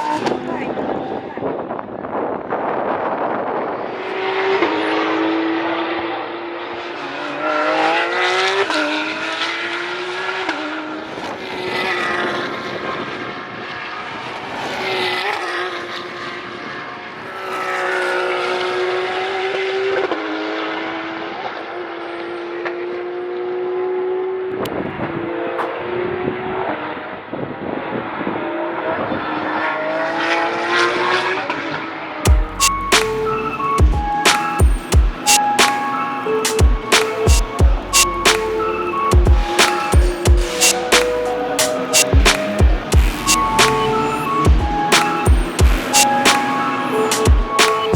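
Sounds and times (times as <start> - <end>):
race cars passing: 0.0 - 47.9.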